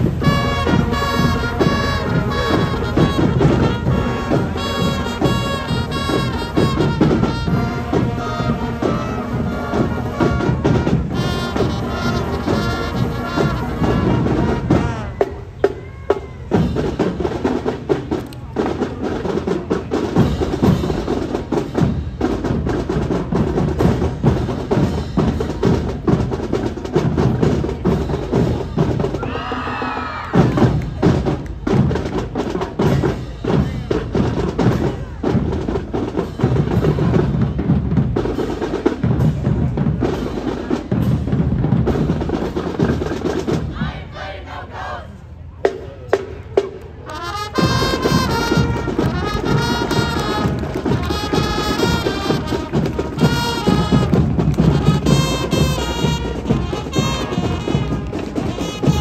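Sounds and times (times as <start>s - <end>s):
drumline playing a cadence: 0.0s - 59.0s
marching band horns: 0.0s - 59.0s.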